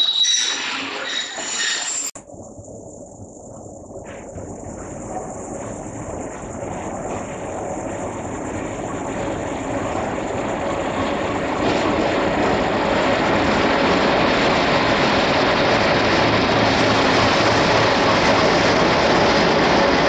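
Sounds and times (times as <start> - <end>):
diesel locomotive engine drone: 0.0 - 20.0
steady whine: 0.0 - 20.0.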